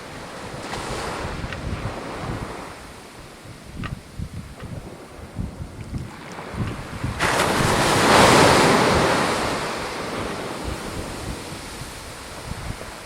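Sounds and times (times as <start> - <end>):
sea wave breaking on shore: 0.0 - 13.0
wind rumbling on microphone: 0.0 - 13.0.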